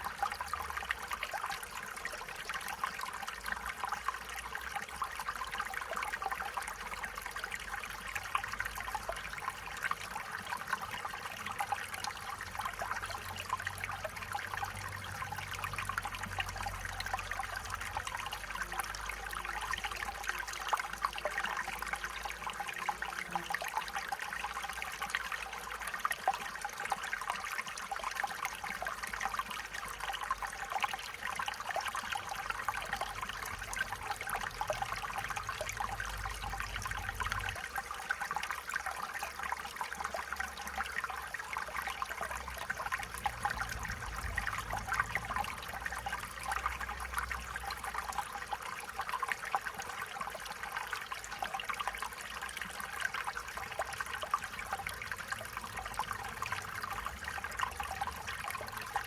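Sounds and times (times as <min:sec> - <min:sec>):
stream babbling over stones: 0:00.0 - 0:59.0.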